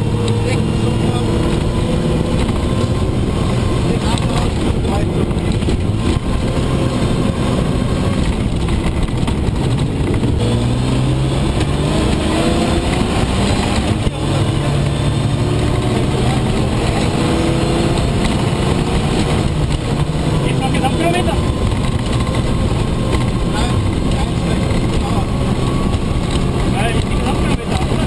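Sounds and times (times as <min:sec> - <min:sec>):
engine pulling hard: 0:00.0 - 0:28.0
road and rattle noise: 0:00.0 - 0:28.0.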